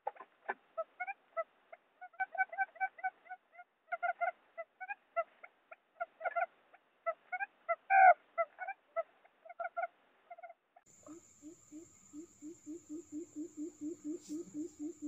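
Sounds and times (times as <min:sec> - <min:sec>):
quail calls: 0:00.0 - 0:15.0.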